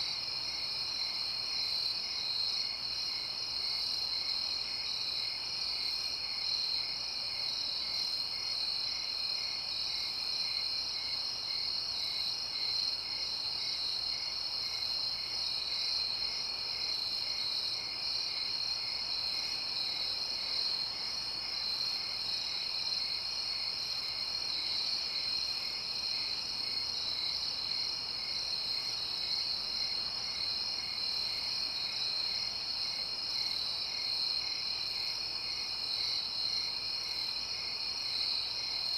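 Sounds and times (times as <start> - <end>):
lower cricket chirp: 0.0 - 38.9.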